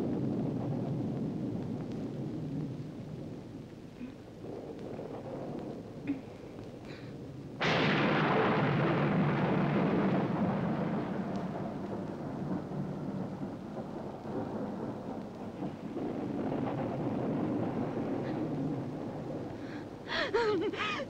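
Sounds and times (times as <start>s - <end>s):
thunder crack and rumble: 0.0s - 21.0s.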